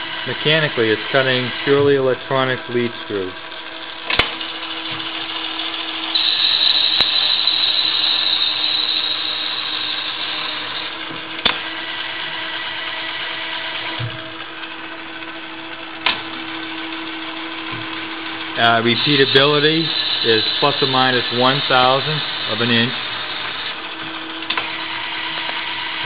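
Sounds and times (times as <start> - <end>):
lathe machine hum: 0.0 - 26.0.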